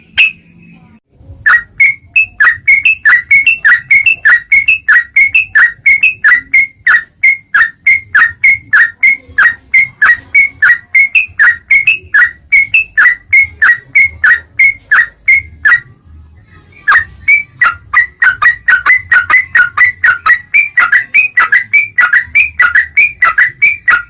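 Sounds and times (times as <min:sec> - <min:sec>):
bird calling with whistled notes: 0:00.0 - 0:00.6, 0:01.5 - 0:15.9, 0:16.8 - 0:24.0.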